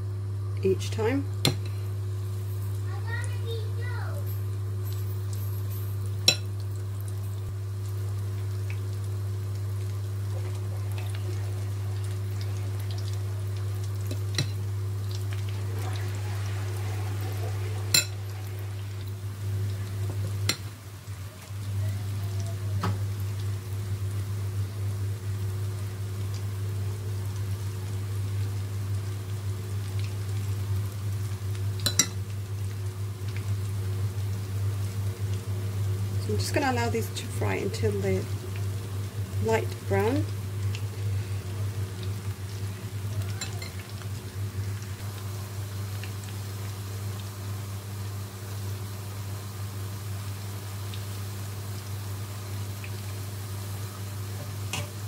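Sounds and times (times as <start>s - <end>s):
oil sizzling in a pan: 0.0s - 55.0s.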